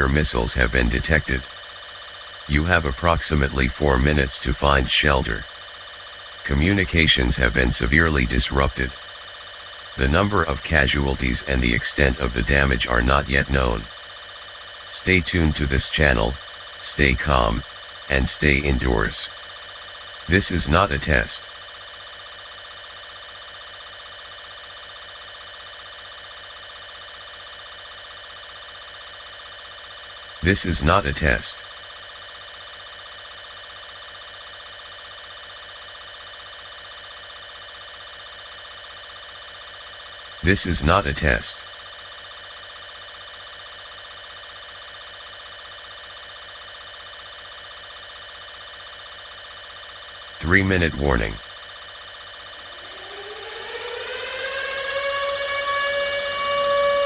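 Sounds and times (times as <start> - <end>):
pulsing electronic alarm tone: 6.5 - 19.3, 20.3 - 57.0.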